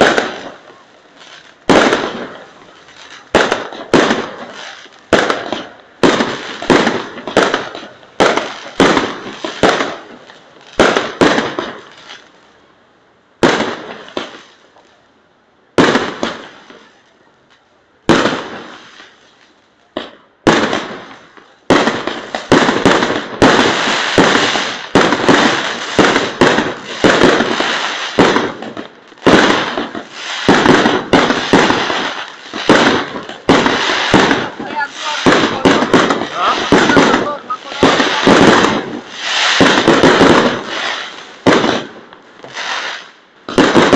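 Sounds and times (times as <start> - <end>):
fireworks bangs: 0.0 - 12.5, 13.3 - 15.0, 15.6 - 43.9.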